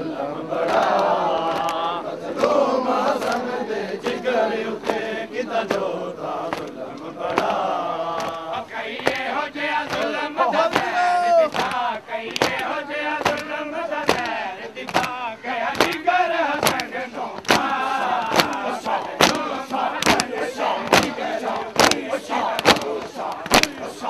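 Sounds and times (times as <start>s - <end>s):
men chanting and shouting: 0.0s - 24.0s
chest beating slaps: 0.7s - 2.5s, 6.5s - 24.0s.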